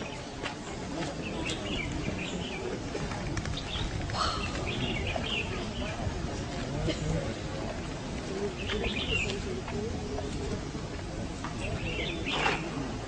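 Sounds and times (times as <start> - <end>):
small birds chirping: 0.0 - 6.1, 7.3 - 13.0.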